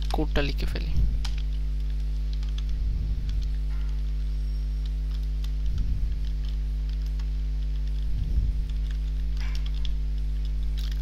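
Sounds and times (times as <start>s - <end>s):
electrical mains hum: 0.0s - 11.0s
soft low bumps: 0.9s - 4.4s, 5.0s - 10.8s.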